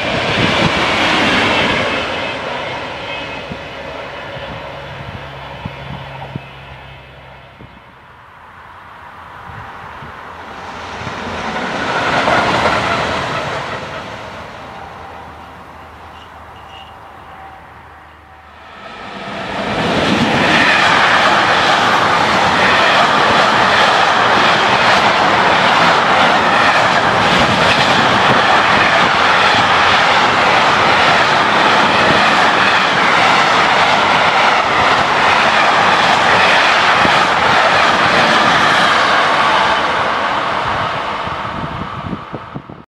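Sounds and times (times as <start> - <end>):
freight train rumbling past: 0.0 - 42.8.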